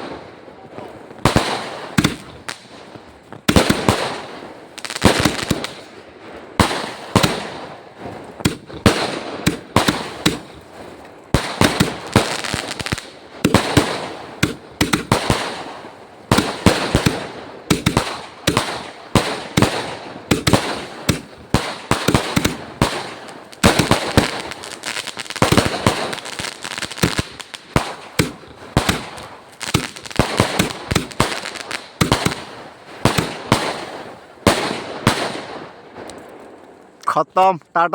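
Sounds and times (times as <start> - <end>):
firecrackers banging: 0.0 - 37.0.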